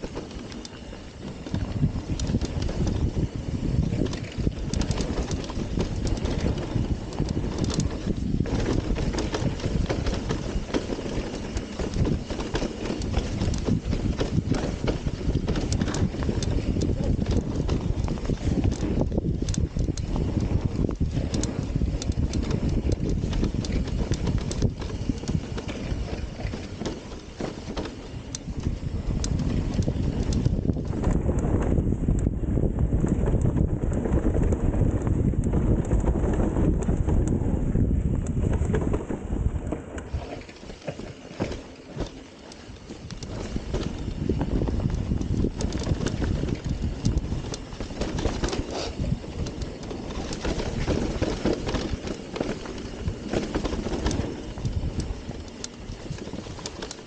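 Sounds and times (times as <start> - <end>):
tyres rumbling on dirt: 0.0 - 31.8, 32.4 - 57.0
bike rattles and knocks: 0.0 - 57.0
wind on microphone: 0.0 - 57.0.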